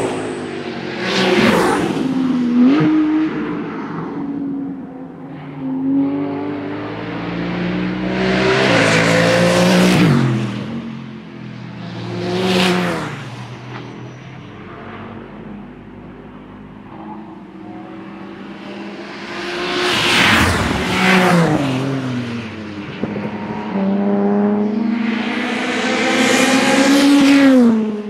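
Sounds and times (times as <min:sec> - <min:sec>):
race cars passing: 0:00.0 - 0:28.0.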